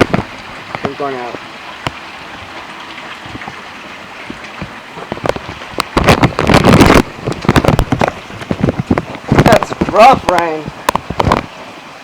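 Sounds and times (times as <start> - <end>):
rain crackling on plastic bag: 0.0 - 11.6
heavy rain falling: 0.0 - 12.0.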